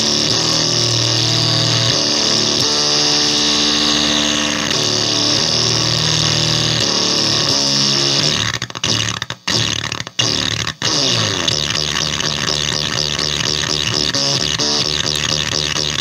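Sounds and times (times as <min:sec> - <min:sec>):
electric guitar riff with filter effect: 0:00.0 - 0:16.0.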